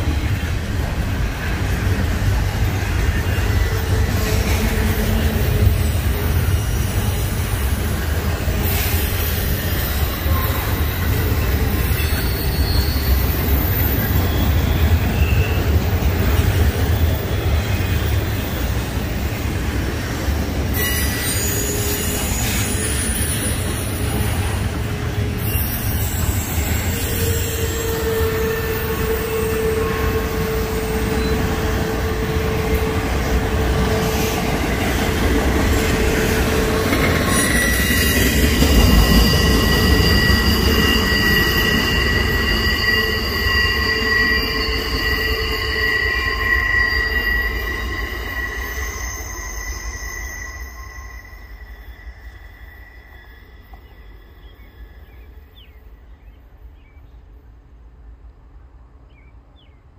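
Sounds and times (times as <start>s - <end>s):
freight train wheels rumbling on rail: 0.0s - 59.9s
wheel squeal: 3.2s - 18.7s, 20.7s - 24.6s, 25.4s - 54.8s.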